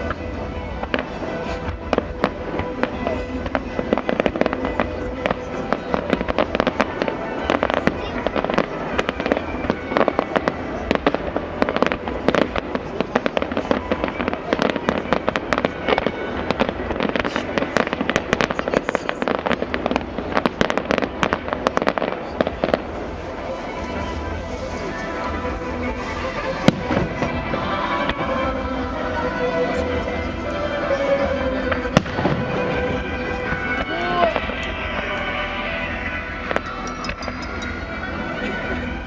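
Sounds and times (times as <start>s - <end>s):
firecrackers banging and crackling: 0.0s - 39.0s.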